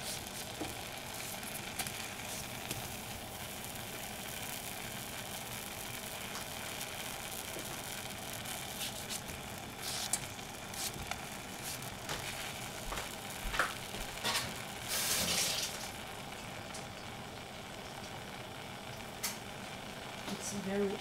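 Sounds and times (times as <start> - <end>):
gas burner hissing: 0.0 - 21.0.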